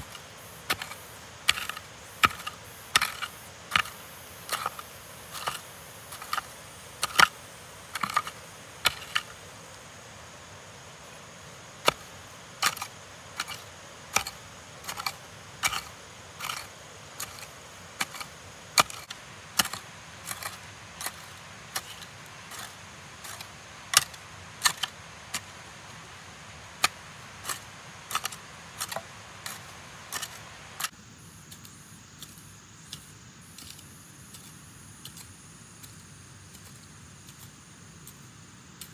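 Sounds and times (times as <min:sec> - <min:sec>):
steady faint hiss: 0:00.0 - 0:38.9.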